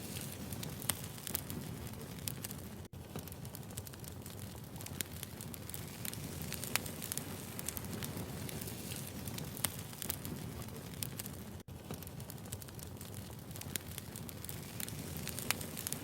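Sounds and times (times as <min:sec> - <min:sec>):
firewood crackling and popping: 0:00.0 - 0:16.0
wood fire rumbling: 0:00.0 - 0:16.0.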